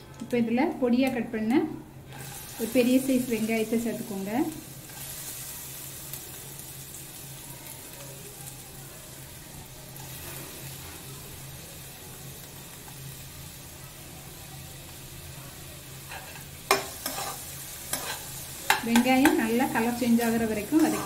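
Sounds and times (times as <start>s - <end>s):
onion sizzling in oil: 1.1s - 21.0s.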